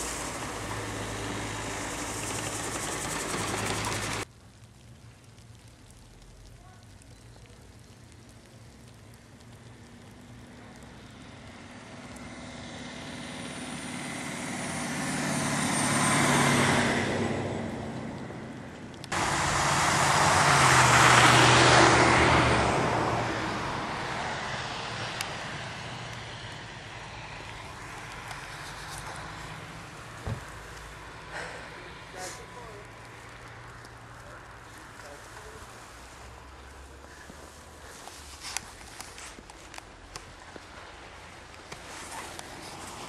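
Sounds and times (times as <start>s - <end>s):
cars passing on snow: 0.0s - 4.3s, 9.6s - 43.0s.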